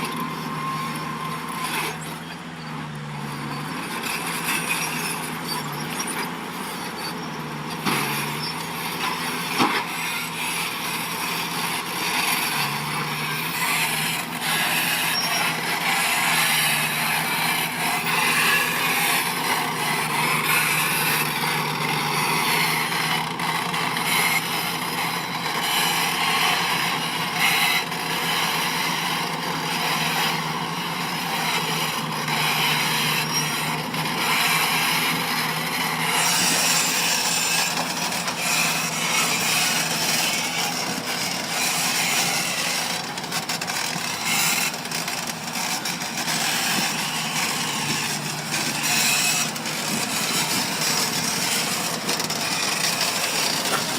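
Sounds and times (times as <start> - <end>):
metal scraping against earth and rock: 0.0 - 28.4, 29.0 - 53.9
heavy machine diesel engine: 0.0 - 53.9.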